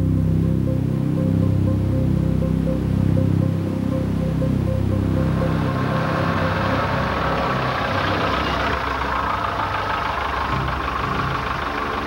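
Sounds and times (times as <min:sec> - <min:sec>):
car engine running: 0:00.0 - 0:12.0
music: 0:00.0 - 0:12.0.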